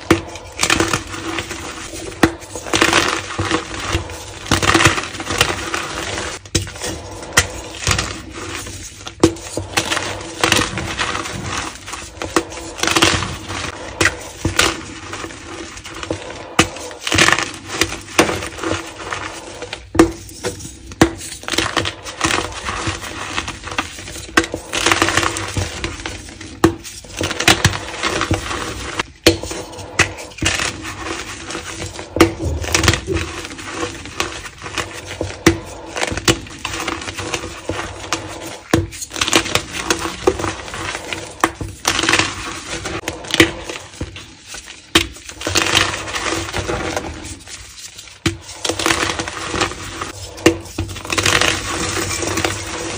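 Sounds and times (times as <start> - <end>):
chalk crushed by hand: 0.0 - 52.9.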